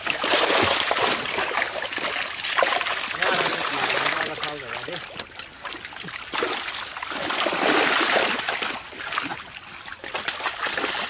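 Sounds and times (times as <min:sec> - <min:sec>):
small fish splashing in net: 0:00.0 - 0:11.0.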